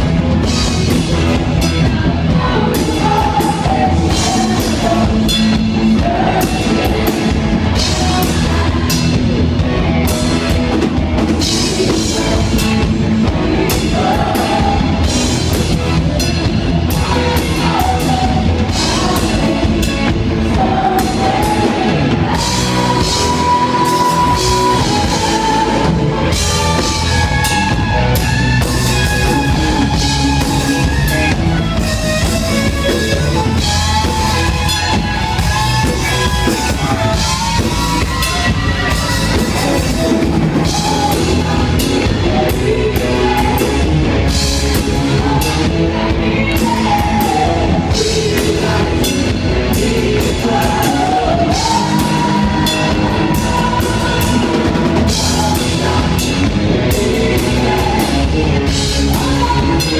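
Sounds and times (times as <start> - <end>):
live rock band playing: 0.0 - 59.9
woman singing: 1.5 - 9.6, 11.4 - 31.4, 32.9 - 59.9.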